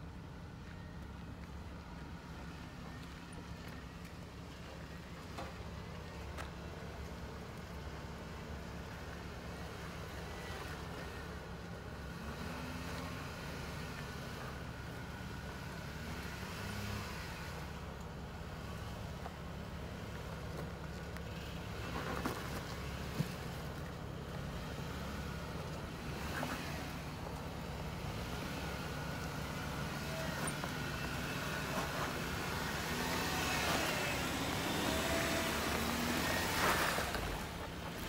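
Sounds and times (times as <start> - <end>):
car engine running at low revs: 0.0 - 38.0.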